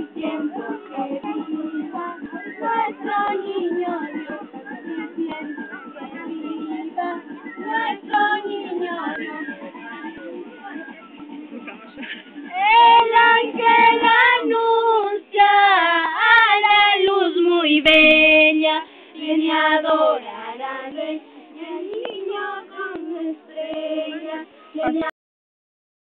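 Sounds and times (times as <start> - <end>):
women and children singing: 0.0 - 25.1.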